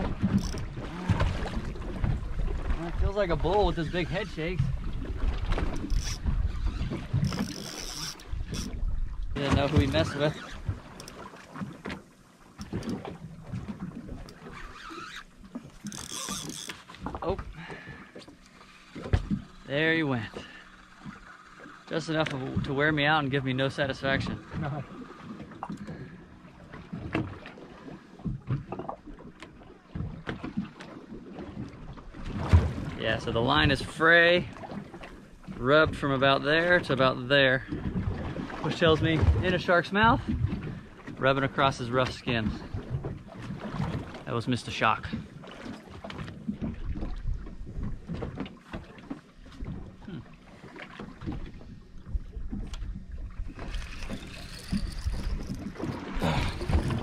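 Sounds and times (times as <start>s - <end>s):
water slapping against boat hull: 0.0s - 57.0s.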